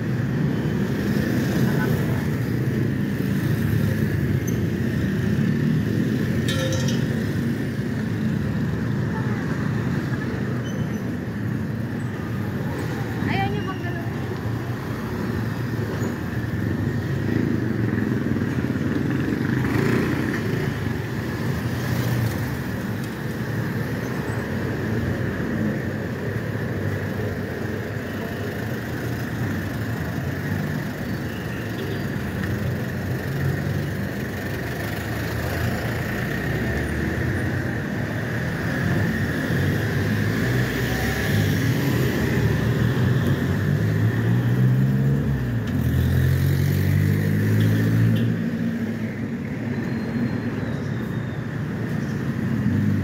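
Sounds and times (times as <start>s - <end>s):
road traffic with engines: 0.0s - 53.0s.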